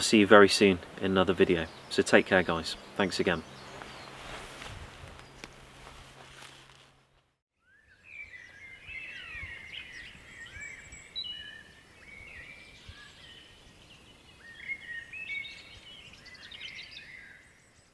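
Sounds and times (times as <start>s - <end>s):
songbirds singing: 0.0s - 6.5s, 7.6s - 17.9s.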